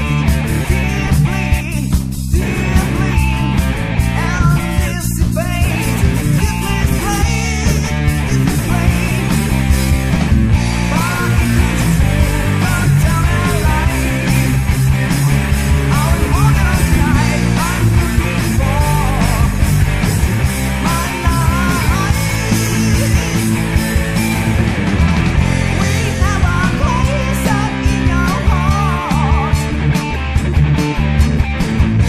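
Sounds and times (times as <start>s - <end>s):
heavy rock band playing: 0.0s - 32.0s.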